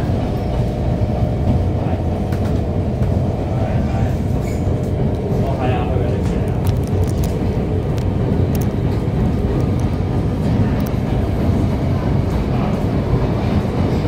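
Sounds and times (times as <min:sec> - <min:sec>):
train running with low rumble: 0:00.0 - 0:14.0.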